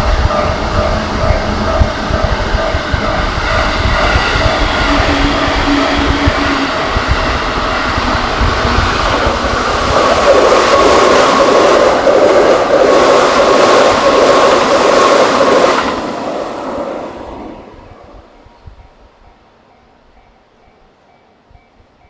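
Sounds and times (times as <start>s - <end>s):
train passing at high speed: 0.0s - 22.0s.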